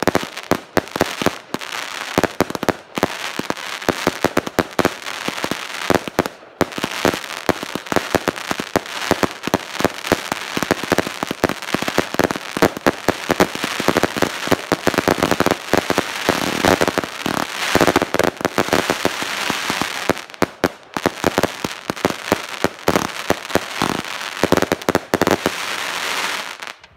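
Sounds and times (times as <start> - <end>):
fireworks barrage of bangs: 0.0 - 26.7.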